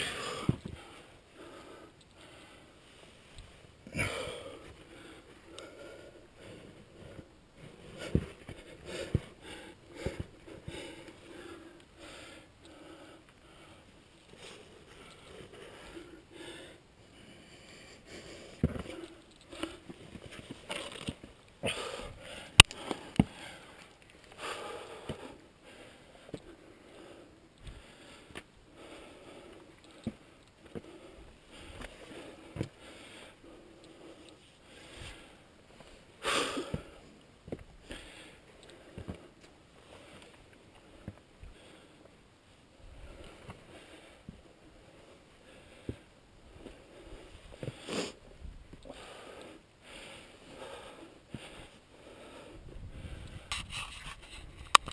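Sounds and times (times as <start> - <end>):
person breathing: 0.0 - 20.0, 21.6 - 37.1, 37.8 - 42.2, 42.9 - 53.6.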